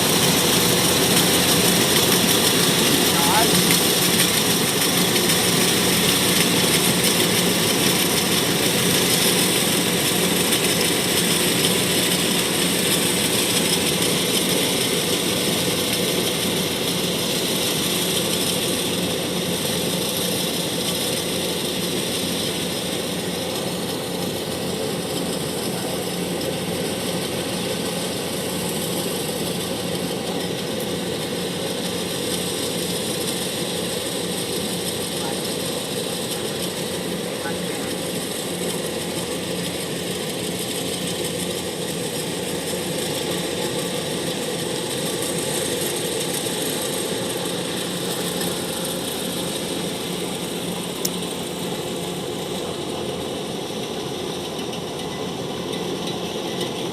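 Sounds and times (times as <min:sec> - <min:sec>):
combine harvester droning: 0:00.0 - 0:56.9.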